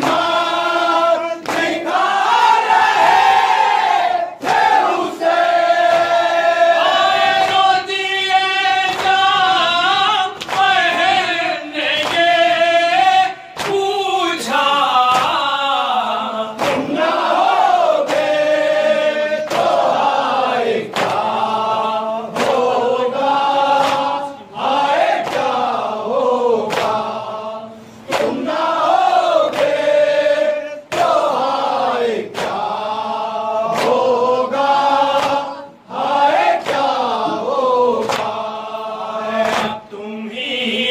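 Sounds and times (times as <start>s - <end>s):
men chanting into a microphone: 0.0s - 40.9s
sharp rhythmic slaps: 0.0s - 40.9s.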